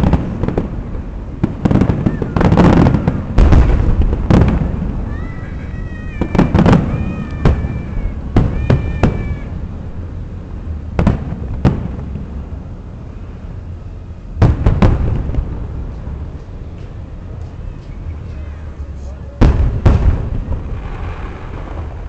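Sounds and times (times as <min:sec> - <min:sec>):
fireworks bursting with echo: 0:00.0 - 0:22.0.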